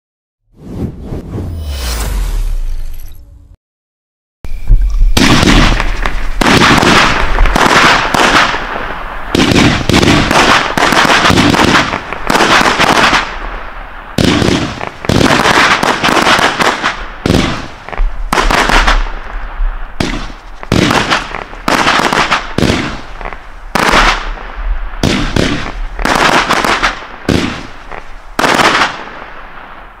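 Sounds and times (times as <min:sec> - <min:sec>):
fireworks cake firing: 0:05.2 - 0:30.0.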